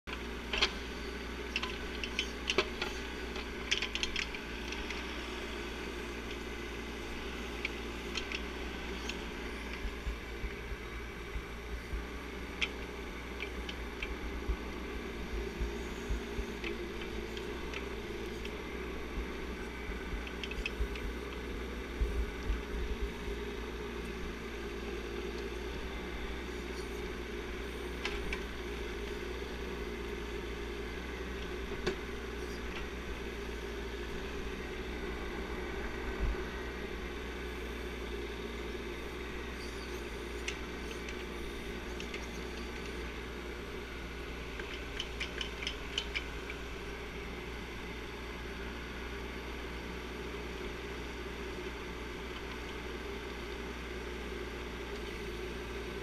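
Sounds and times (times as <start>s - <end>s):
mini excavator engine running: 0.1s - 56.0s.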